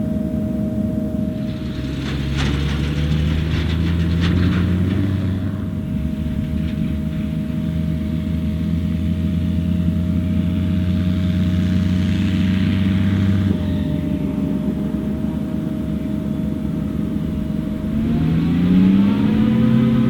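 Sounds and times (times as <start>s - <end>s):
diesel engine of farm machine: 0.0s - 20.0s.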